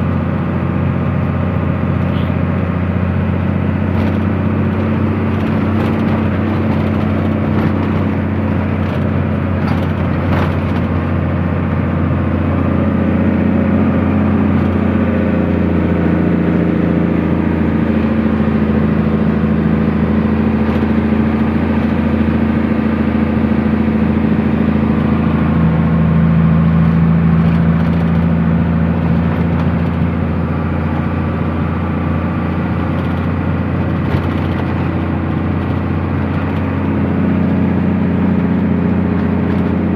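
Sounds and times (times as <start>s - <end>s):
truck engine from inside cab: 0.0s - 39.9s.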